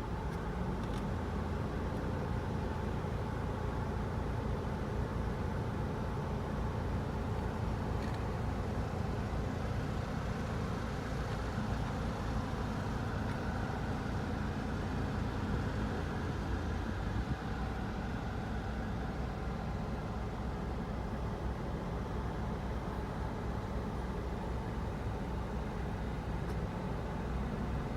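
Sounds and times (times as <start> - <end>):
air conditioning running: 0.0 - 27.9
diesel engine rumble in cabin: 0.0 - 27.9.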